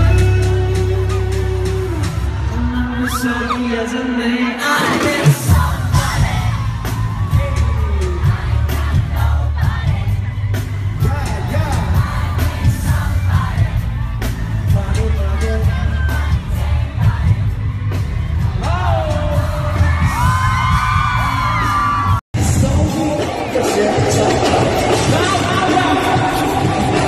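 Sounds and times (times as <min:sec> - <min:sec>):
crowd whooping and yelling: 0:00.0 - 0:27.0
pop music with singing: 0:00.0 - 0:27.0.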